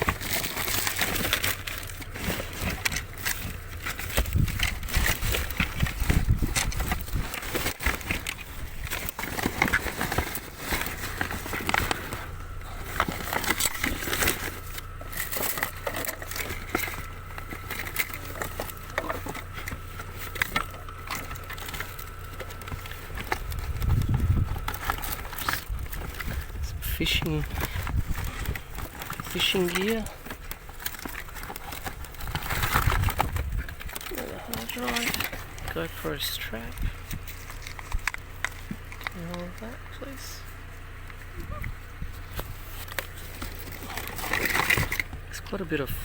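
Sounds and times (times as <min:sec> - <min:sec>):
hands rummaging through items: 0:00.0 - 0:46.0
rustling and crinkling: 0:00.0 - 0:46.0
steady low hum: 0:00.0 - 0:46.0.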